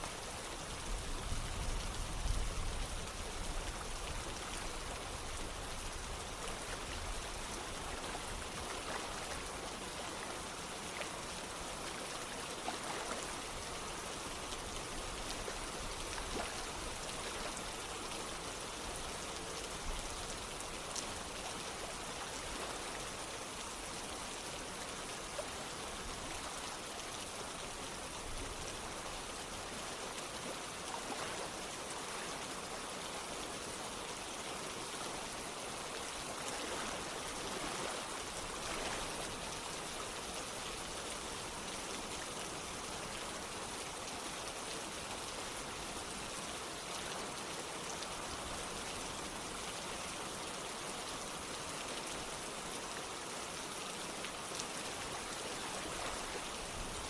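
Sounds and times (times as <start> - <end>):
rain patter: 0.0 - 57.0
running water: 0.0 - 57.0.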